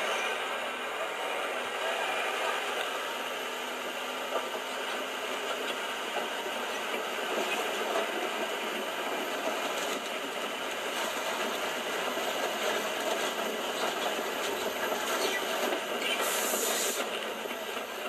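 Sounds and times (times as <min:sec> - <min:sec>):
bulldozer diesel engine: 0:00.0 - 0:18.0
steel tracks running: 0:00.0 - 0:18.0.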